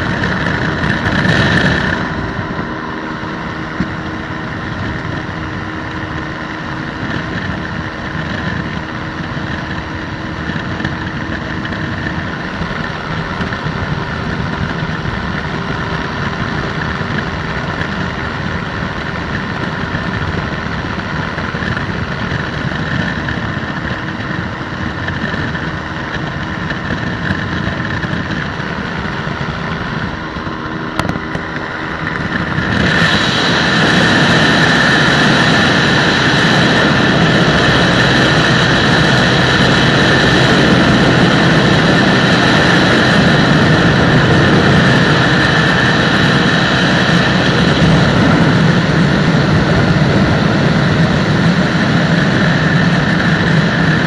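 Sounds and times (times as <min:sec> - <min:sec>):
microlight engine and propeller: 0:00.0 - 0:54.0.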